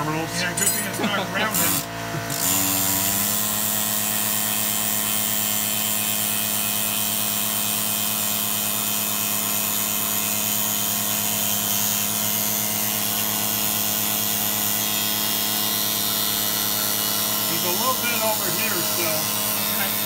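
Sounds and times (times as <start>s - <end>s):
handheld power tool running: 0.5s - 20.0s.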